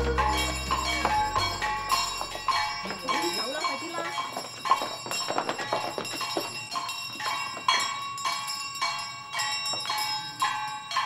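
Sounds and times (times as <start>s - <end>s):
bell ringing: 0.0s - 11.0s.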